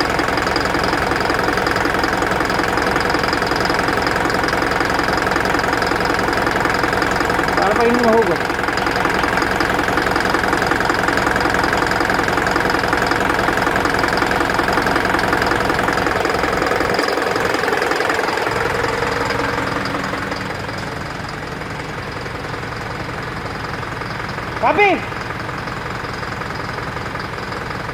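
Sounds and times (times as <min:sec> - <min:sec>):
truck engine idling: 0:00.0 - 0:27.9.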